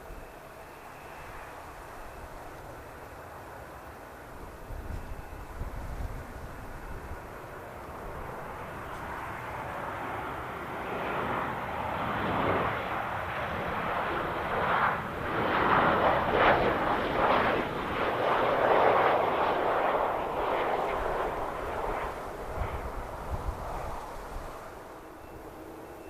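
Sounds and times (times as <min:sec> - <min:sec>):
jet airliner engine noise: 0:00.0 - 0:26.0.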